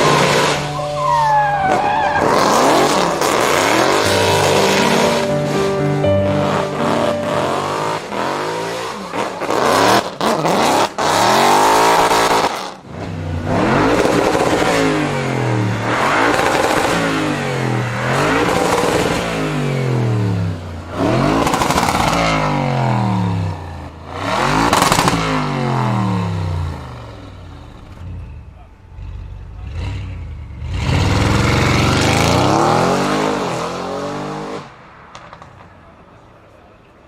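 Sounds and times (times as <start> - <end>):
high-revving car engines: 0.0 - 4.9, 7.4 - 34.7.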